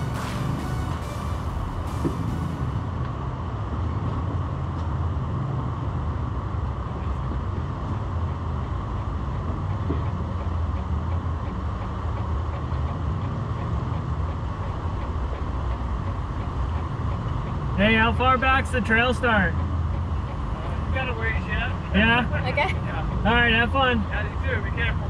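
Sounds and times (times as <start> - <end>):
low engine rumble: 0.0 - 25.0.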